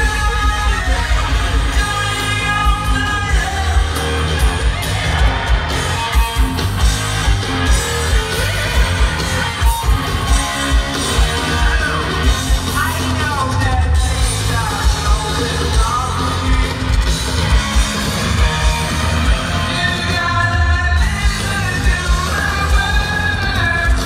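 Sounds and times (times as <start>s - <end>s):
distorted electric guitar: 0.0s - 24.0s
man singing and yelling: 0.0s - 24.0s.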